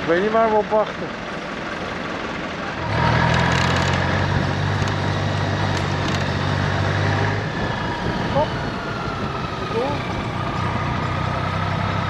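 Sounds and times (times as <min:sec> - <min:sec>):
nearby vehicle engine drone: 0:00.0 - 0:12.0
vehicle engines running: 0:00.0 - 0:12.0.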